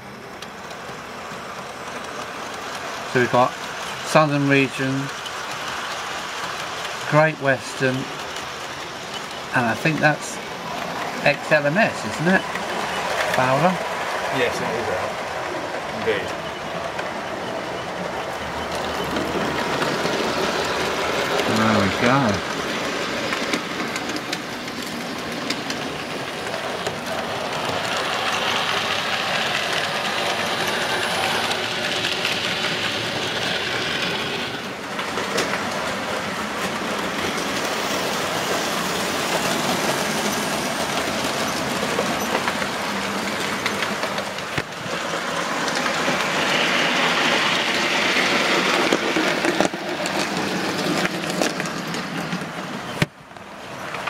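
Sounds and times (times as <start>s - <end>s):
model trains running on track: 0.0s - 54.0s.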